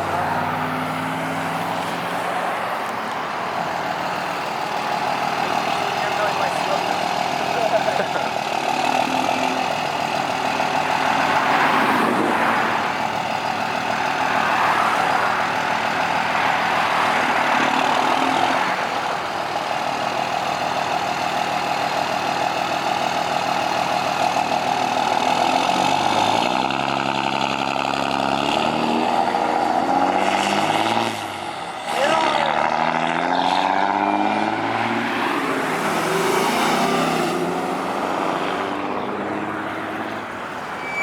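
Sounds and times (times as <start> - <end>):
car engine revving: 0.0 - 20.8, 24.4 - 40.9
cars driving slowly past: 0.0 - 41.0.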